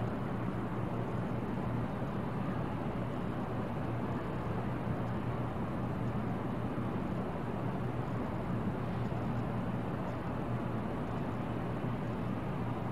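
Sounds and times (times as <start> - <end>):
faint hum: 0.0 - 12.9.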